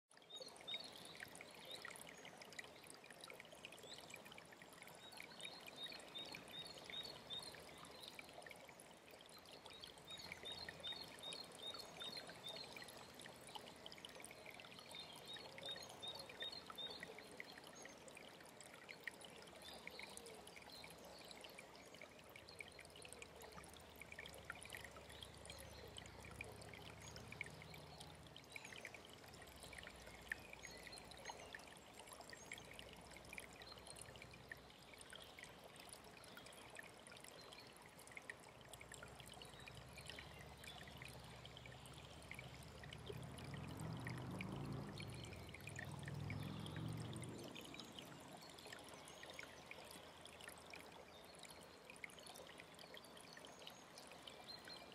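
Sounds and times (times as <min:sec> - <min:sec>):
stream trickling: 0:00.1 - 0:54.9.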